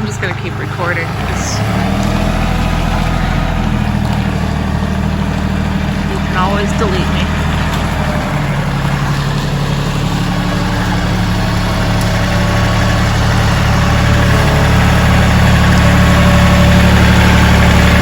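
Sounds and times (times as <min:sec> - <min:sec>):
tractor diesel engine at low revs: 0:00.0 - 0:18.0.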